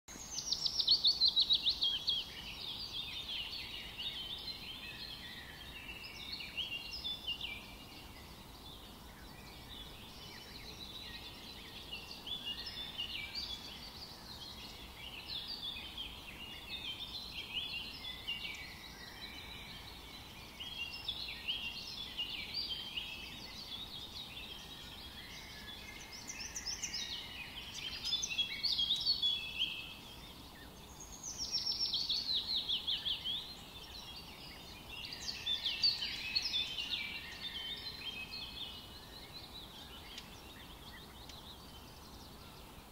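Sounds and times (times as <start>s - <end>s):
small birds chirping: 0.1s - 42.9s.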